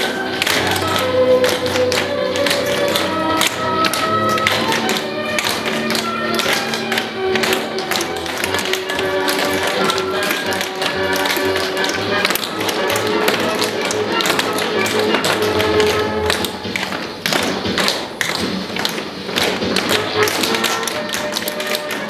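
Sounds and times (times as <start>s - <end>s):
backing music with steady beat: 0.0s - 22.0s
tap shoes clicking on wooden floor: 0.0s - 22.0s.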